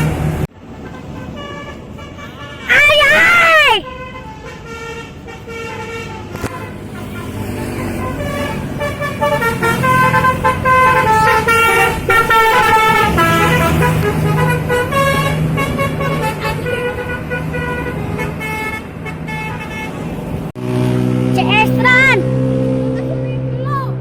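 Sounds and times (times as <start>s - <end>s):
multi-tone bus horn tune: 0.0s - 23.4s
bus engine running: 0.0s - 24.0s.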